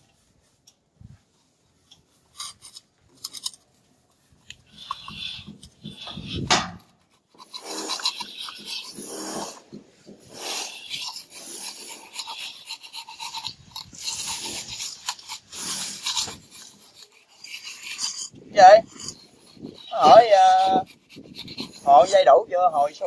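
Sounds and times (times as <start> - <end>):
trowel scraping mortar on wall: 1.8 - 23.0.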